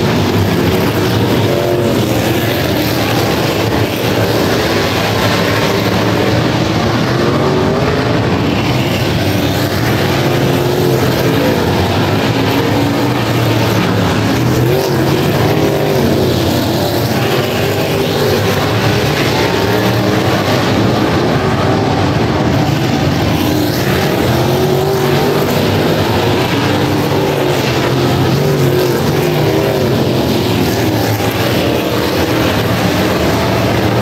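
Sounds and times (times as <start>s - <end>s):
race car engines: 0.0s - 34.0s.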